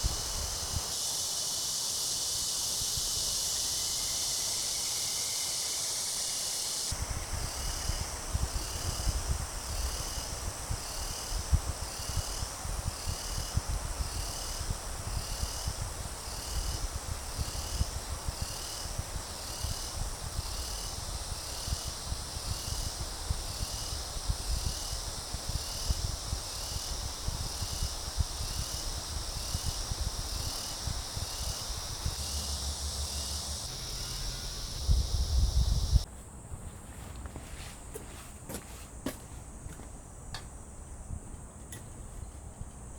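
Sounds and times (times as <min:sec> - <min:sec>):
continuous high hiss: 0:00.0 - 0:42.9
insects chorus: 0:00.0 - 0:42.9.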